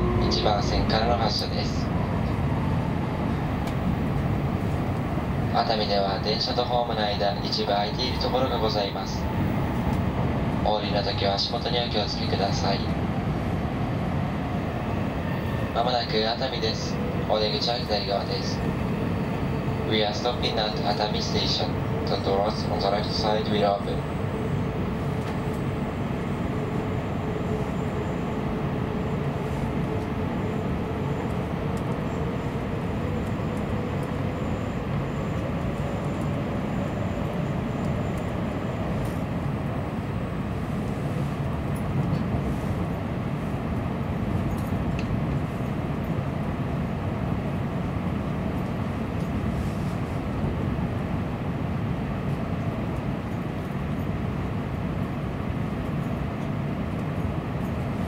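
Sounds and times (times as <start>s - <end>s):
faint train whine: 0.0s - 58.0s
train wheels rumbling on rails: 0.0s - 58.0s.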